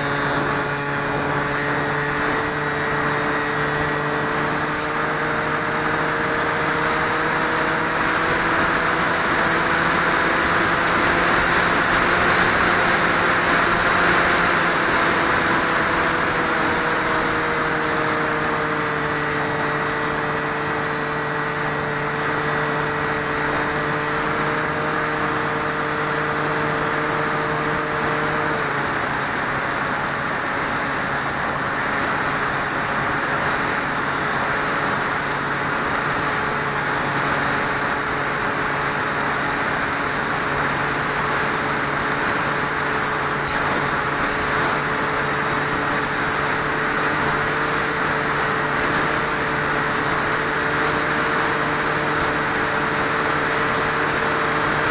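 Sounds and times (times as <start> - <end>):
electric motor and propeller hum: 0.0 - 54.9.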